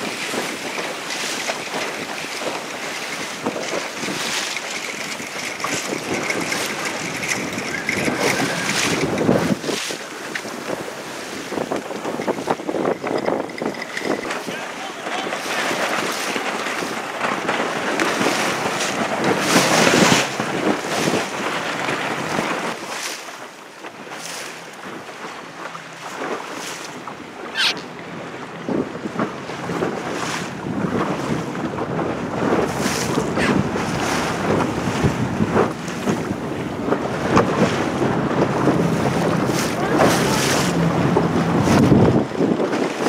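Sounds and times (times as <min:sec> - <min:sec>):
wind buffeting microphone: 0:00.0 - 0:23.0, 0:23.9 - 0:43.0
water rushing and splashing: 0:00.0 - 0:43.0.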